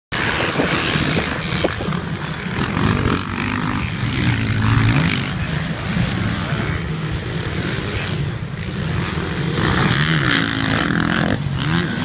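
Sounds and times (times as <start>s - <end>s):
dirt bike engines revving: 0.2s - 12.0s.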